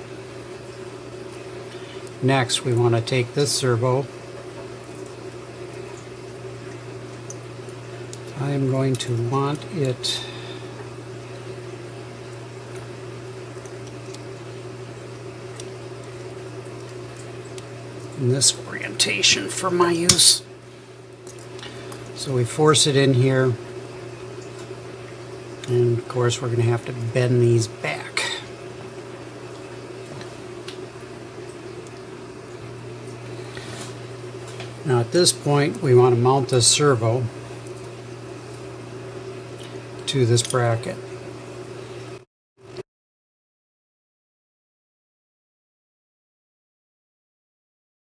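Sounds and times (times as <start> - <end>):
low room hum: 0.0 - 42.8.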